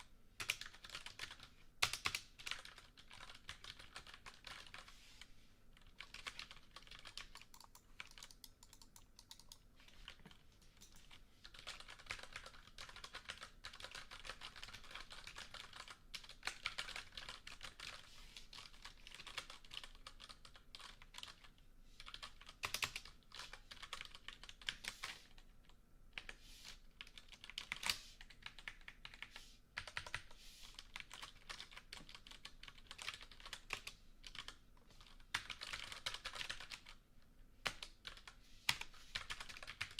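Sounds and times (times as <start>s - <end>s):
typing on a keyboard: 0.0s - 4.9s, 5.8s - 26.4s, 27.0s - 37.0s, 37.6s - 39.9s.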